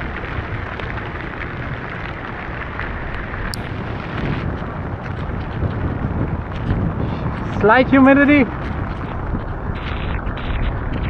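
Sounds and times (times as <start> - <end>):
raindrop ticks: 0.0 - 11.0
steady falling rain: 0.0 - 11.0
wind buffeting microphone: 0.0 - 11.0.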